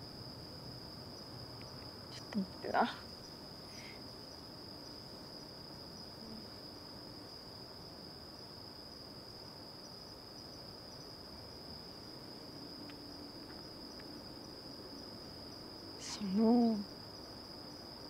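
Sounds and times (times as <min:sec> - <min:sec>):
crickets trilling: 0:00.0 - 0:18.0
faint background hiss: 0:00.0 - 0:18.0.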